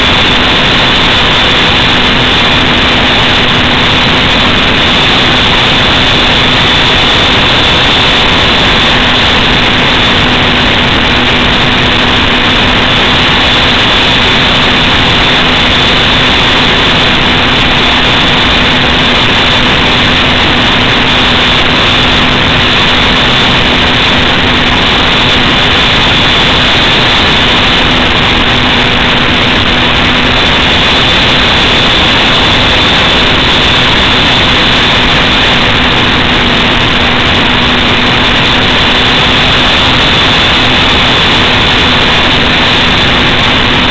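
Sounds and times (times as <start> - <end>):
aircraft motor and propeller drone: 0.0 - 43.9
wind rush: 0.0 - 43.9.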